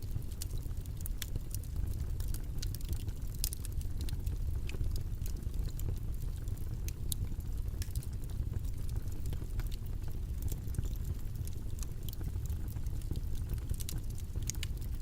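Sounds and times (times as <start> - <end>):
constant low rumble: 0.0 - 15.0
faint crackles and clicks: 0.0 - 15.0.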